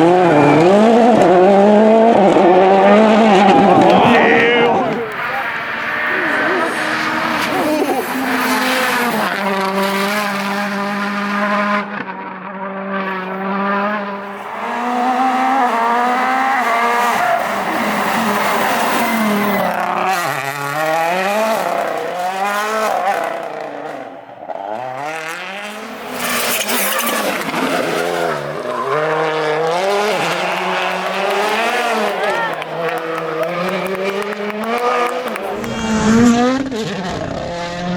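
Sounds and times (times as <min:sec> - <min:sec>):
rally car engines at full throttle: 0:00.0 - 0:37.9.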